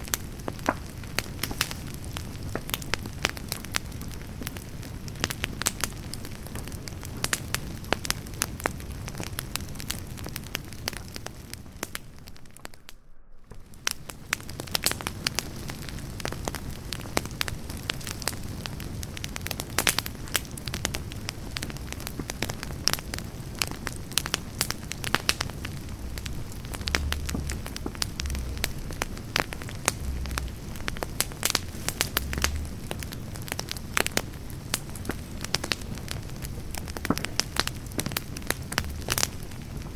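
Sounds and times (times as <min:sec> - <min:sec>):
campfire crackling and popping: 0:00.0 - 0:39.9
steady fire hiss: 0:00.0 - 0:39.9.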